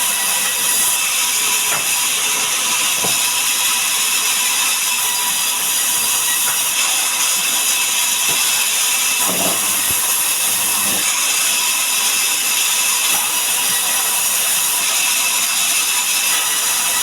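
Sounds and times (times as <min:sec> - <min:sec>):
sawmill saw cutting log: 0:00.0 - 0:17.0.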